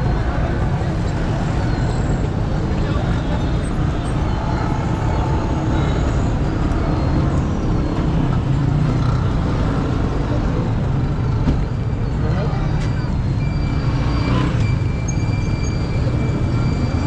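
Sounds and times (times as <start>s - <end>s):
road noise: 0.0s - 17.0s
vehicle engines: 0.0s - 17.0s.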